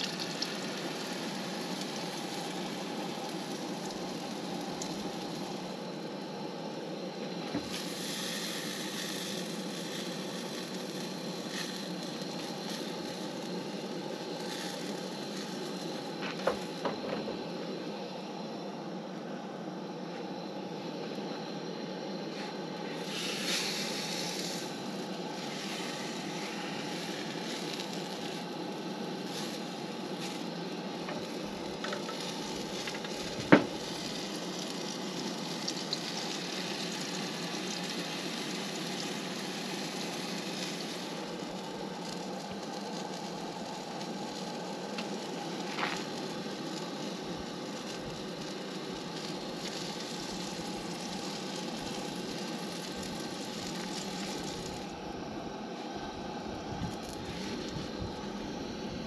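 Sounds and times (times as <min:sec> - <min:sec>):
batter sizzling in a frying pan: 0:00.0 - 0:18.6, 0:22.2 - 0:59.0
gas burner hiss: 0:00.0 - 0:59.0.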